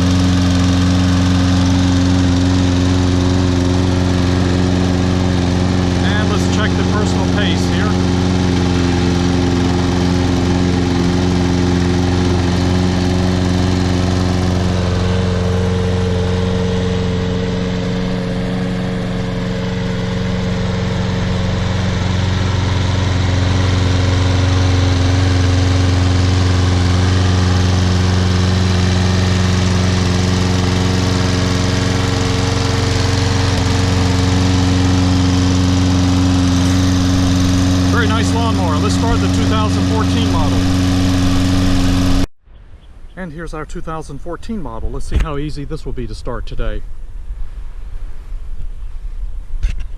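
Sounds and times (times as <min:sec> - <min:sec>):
lawn mower engine running: 0:00.0 - 0:42.3.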